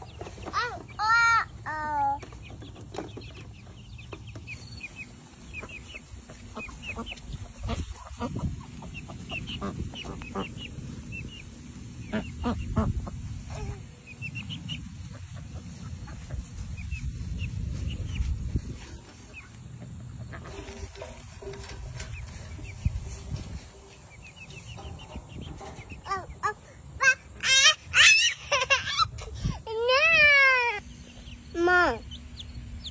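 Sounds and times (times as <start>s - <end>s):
chicks peeping: 0.0s - 32.9s.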